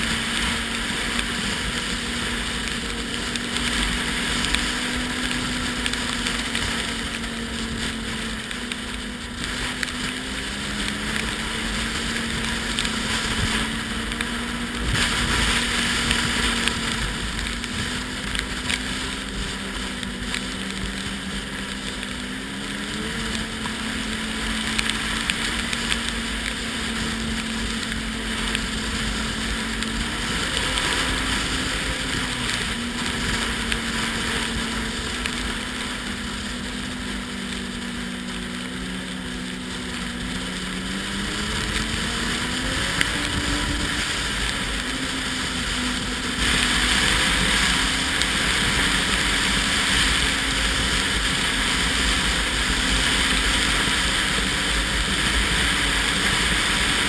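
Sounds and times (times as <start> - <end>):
snowmobile engine running: 0.0 - 57.0
wind rushing on microphone: 0.0 - 57.0.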